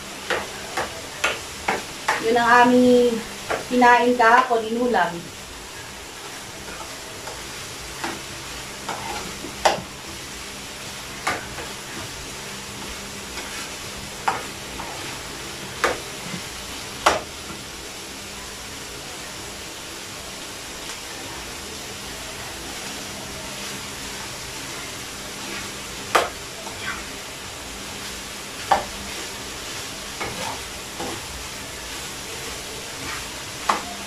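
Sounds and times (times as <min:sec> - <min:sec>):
meat sizzling in a frying pan: 0:00.0 - 0:34.0.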